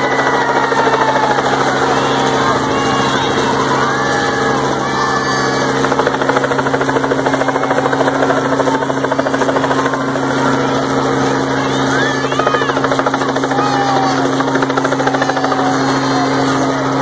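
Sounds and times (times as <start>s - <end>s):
helicopter engine drone: 0.0s - 17.0s
helicopter rotor beating: 0.0s - 17.0s.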